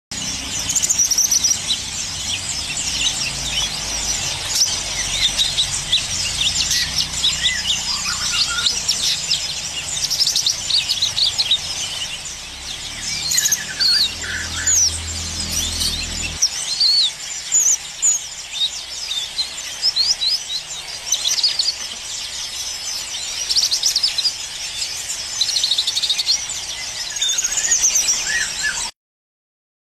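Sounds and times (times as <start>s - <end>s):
bird singing fast chirps and trills: 0.1s - 28.9s.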